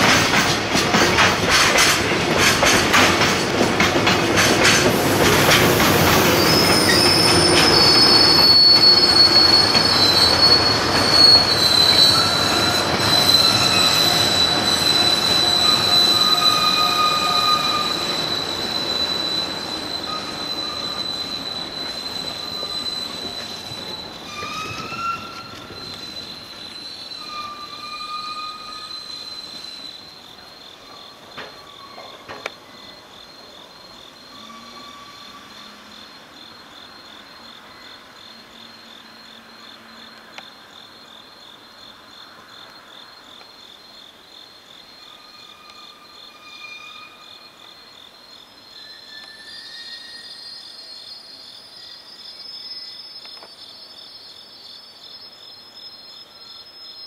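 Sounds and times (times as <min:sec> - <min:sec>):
train wheels squealing: 0:00.0 - 0:40.9, 0:44.8 - 0:57.0
crickets chirping: 0:00.0 - 0:57.0.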